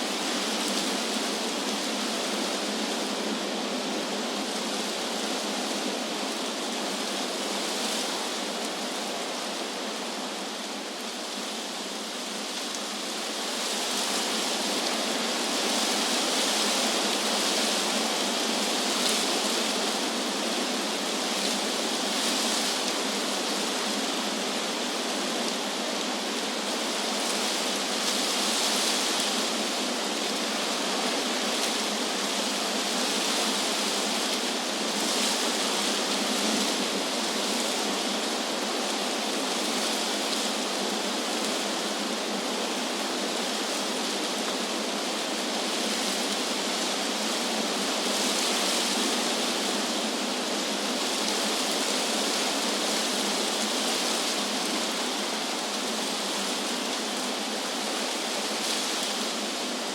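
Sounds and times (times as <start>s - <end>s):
wind blowing through leaves: 0.0s - 59.9s.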